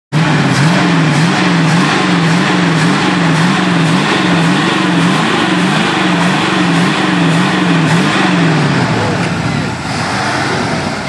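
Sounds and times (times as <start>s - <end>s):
car engine lumpy idle: 0.1s - 11.0s.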